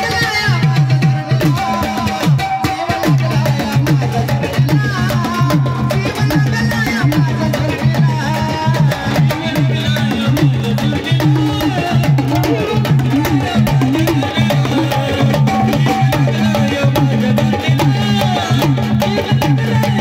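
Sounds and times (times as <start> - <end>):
fast hand percussion: 0.0 - 20.0.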